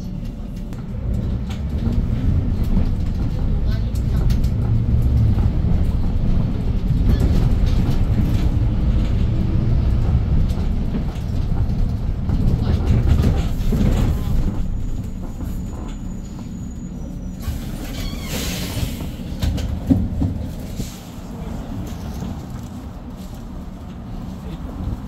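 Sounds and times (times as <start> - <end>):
bus cabin rumble: 0.0 - 25.0.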